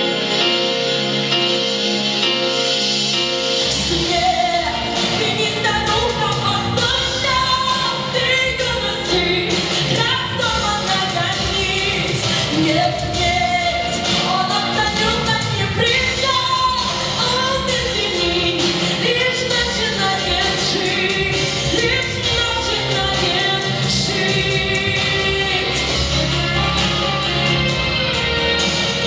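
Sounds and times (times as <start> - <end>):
pop-rock band playing: 0.0 - 29.0.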